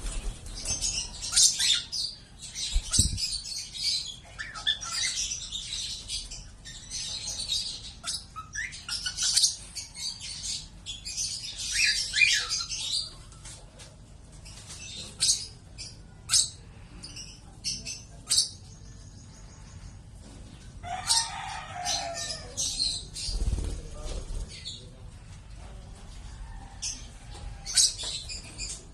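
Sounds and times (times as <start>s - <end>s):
lovebirds chirping and squawking: 0.0s - 13.6s, 14.2s - 28.9s.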